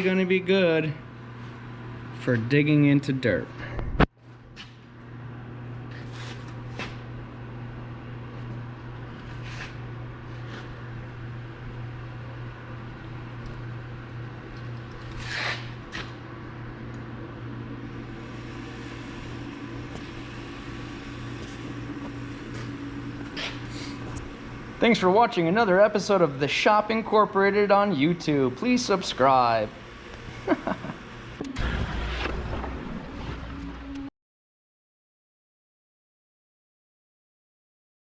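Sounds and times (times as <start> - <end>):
low machine hum: 0.0 - 34.1.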